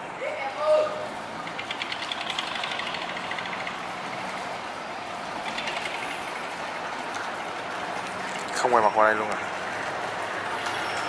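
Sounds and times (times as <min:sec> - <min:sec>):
boat engine clattering: 0:01.0 - 0:11.0.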